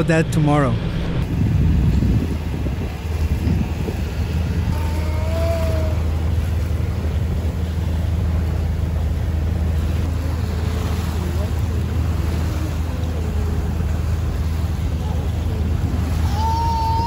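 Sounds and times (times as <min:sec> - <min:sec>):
boat engine humming: 0:00.0 - 0:17.0
water noise: 0:00.0 - 0:17.0
wind: 0:00.0 - 0:17.0.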